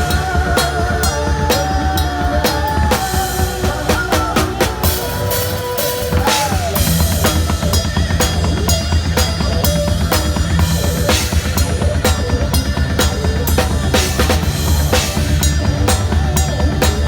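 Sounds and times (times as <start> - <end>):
drum kit beat: 0.0 - 17.0
live band music: 0.0 - 17.0.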